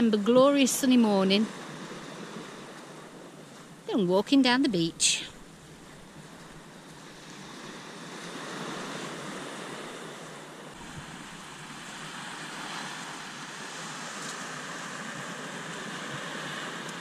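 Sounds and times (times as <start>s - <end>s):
waves breaking on beach: 0.0s - 17.0s
wind: 0.0s - 17.0s.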